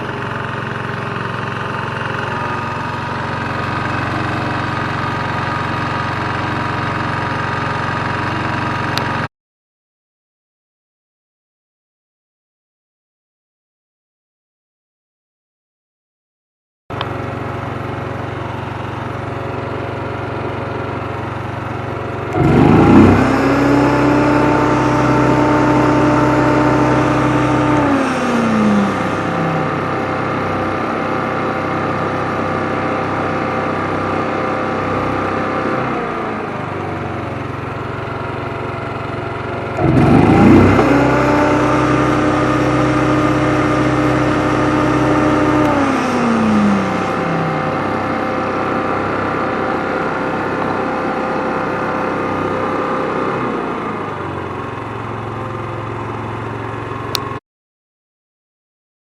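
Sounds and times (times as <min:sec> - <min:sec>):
welder generator engine running: 0:00.0 - 0:09.3, 0:16.9 - 0:57.4.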